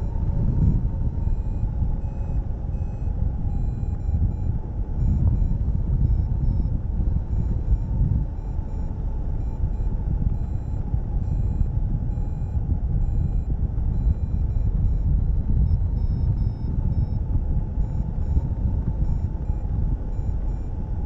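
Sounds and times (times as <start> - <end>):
variometer short beeps: 0.0 - 21.0
wind buffeting microphone: 0.0 - 21.0.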